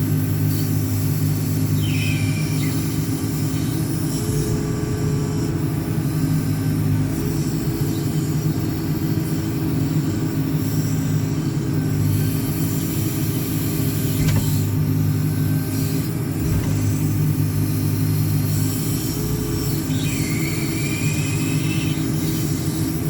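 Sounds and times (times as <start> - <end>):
backhoe diesel engine droning: 0.0 - 23.0.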